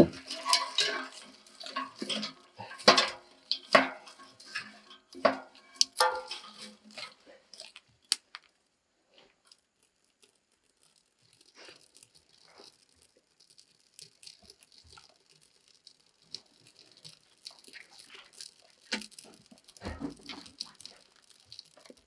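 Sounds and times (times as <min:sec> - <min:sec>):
kindling crackling in a wood stove: 0:00.0 - 0:22.0.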